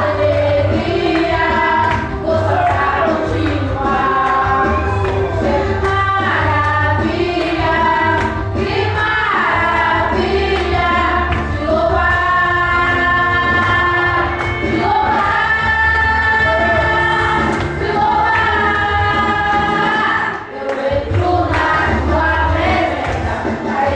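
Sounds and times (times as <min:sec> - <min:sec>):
choir singing: 0:00.0 - 0:23.9.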